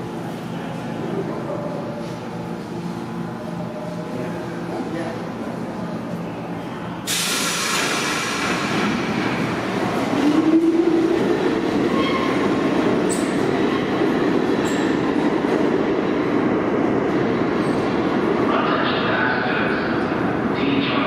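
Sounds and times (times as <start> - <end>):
subway train wheel rumble: 0.0 - 21.0.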